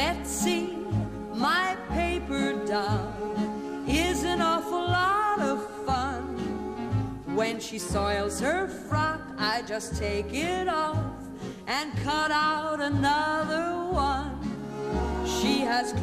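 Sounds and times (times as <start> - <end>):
instrumental backing with bass line: 0.0 - 16.0.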